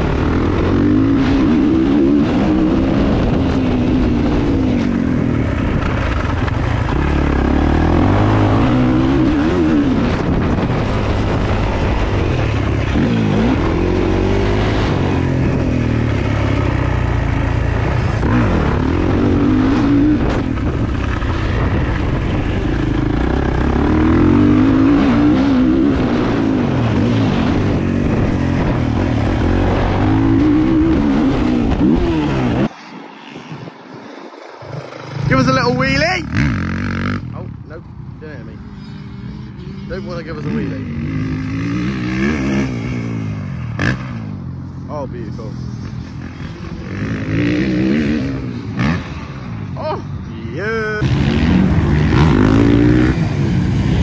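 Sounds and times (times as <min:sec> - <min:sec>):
motocross bike engine revving: 0:00.0 - 0:32.7, 0:34.6 - 0:54.0.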